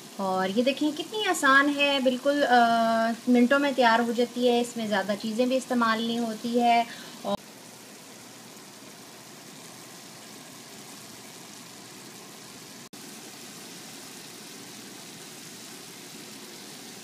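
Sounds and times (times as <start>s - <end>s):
oil sizzling in a pot: 0.0s - 17.0s.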